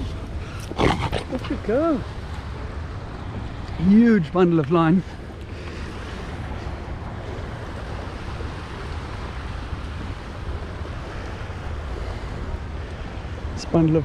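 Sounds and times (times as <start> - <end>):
surf washing: 0.0 - 14.0.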